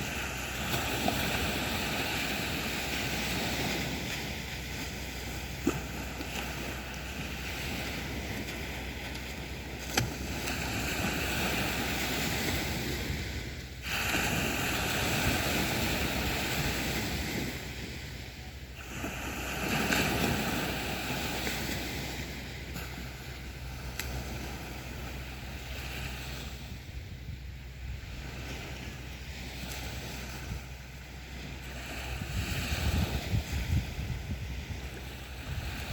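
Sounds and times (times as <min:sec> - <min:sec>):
sea waves breaking on beach: 0:00.0 - 0:35.9.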